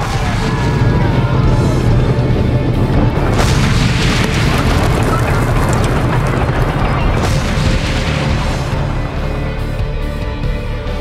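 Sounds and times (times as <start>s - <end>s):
explosions: 0.0s - 9.5s
low rumble: 0.0s - 10.3s
background music: 0.0s - 11.0s.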